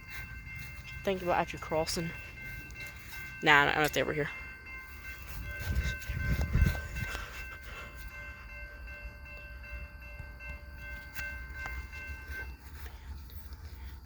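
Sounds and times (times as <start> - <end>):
rails singing high-pitched ringing: 0.0 - 14.0.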